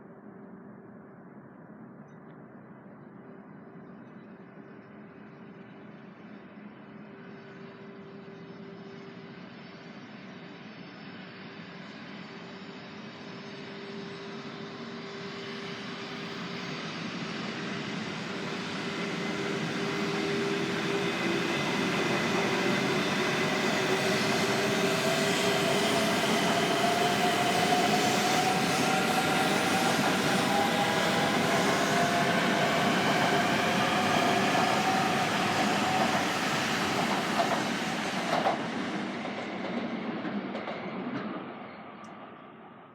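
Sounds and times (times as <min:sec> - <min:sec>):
train electric motor whine: 0:07.1 - 0:42.8.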